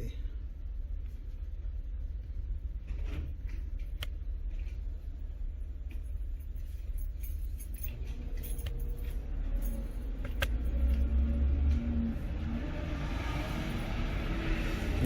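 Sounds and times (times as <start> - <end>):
faint hum: 0.0 - 12.7
low rumble: 0.0 - 15.0.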